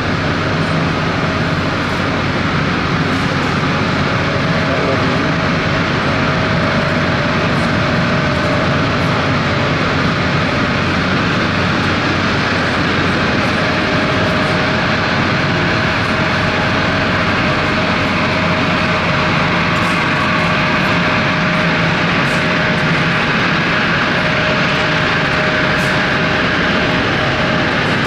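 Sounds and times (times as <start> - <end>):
airliner engines roaring: 0.0 - 28.0.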